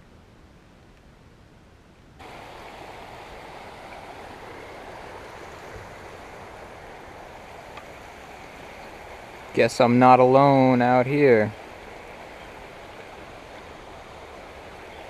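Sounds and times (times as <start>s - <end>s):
stream water flowing: 2.2s - 15.0s.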